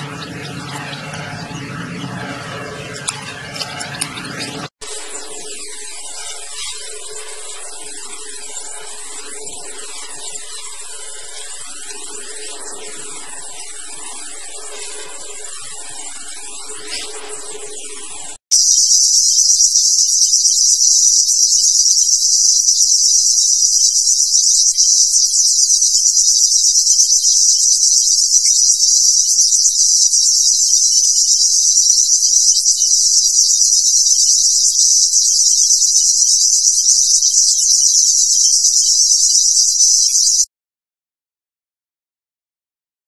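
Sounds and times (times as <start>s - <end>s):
high-pitched insect chorus: 4.8s - 40.5s.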